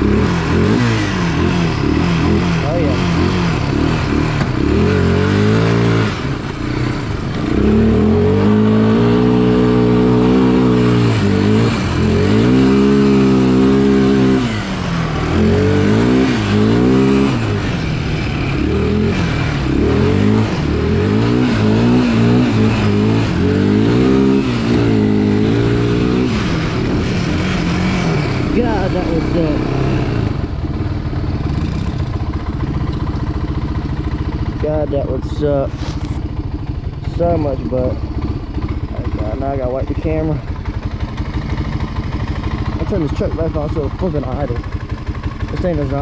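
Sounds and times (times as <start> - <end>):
atv engine revving: 0.0 - 46.0.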